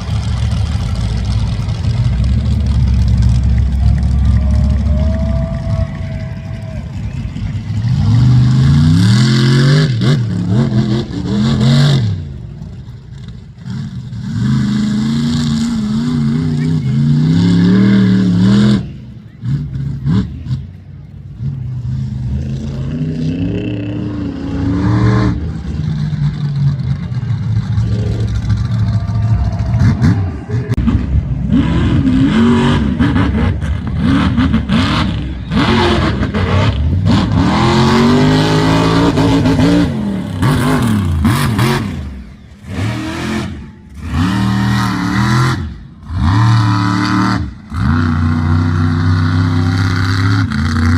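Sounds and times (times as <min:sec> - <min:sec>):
truck engine revving hard: 0:00.0 - 0:50.9.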